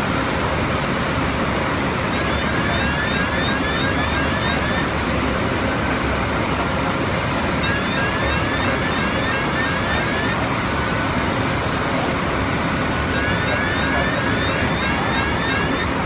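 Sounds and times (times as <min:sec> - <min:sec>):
engine and traffic rumble: 0:00.0 - 0:16.0.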